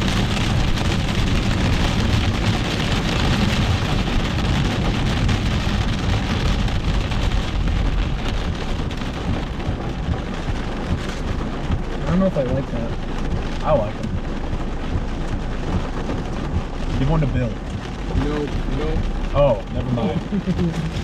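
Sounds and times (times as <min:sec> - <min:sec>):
car rumbling on the road: 0:00.0 - 0:21.0
heavy rain on a car: 0:00.0 - 0:21.0.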